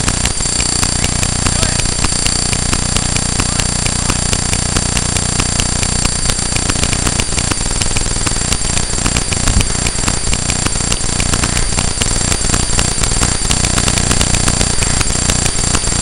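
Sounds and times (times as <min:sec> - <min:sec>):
fast crackling ticks: 0:00.0 - 0:16.0
high electronic whining tones: 0:00.0 - 0:16.0.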